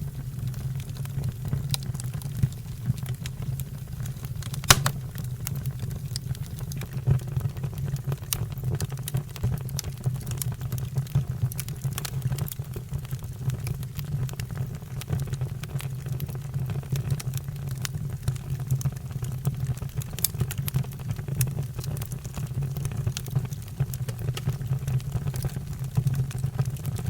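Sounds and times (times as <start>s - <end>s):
fire crackling and popping: 0.0s - 27.0s.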